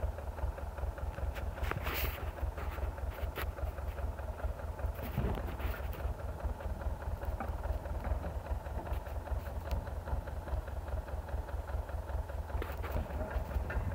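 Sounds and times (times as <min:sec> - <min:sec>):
tractor engine chugging: 0:00.0 - 0:13.9.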